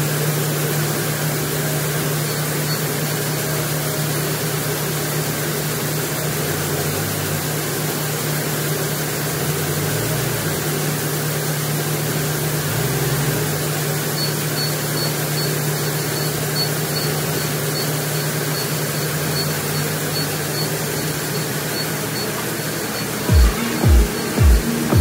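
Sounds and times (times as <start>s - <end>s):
forklift engine revving: 0.0s - 25.0s
rice-hulling machinery drone: 0.0s - 25.0s.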